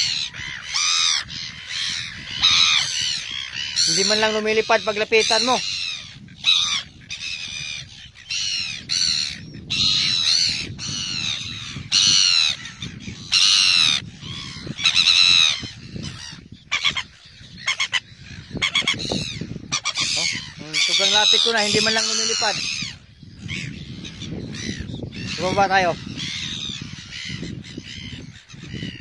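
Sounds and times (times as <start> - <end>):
gulls calling: 0.0 - 29.0.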